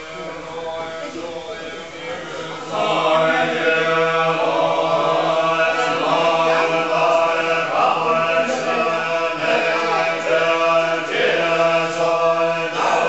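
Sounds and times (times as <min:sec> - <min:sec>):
monks chanting in unison: 0:00.0 - 0:13.0.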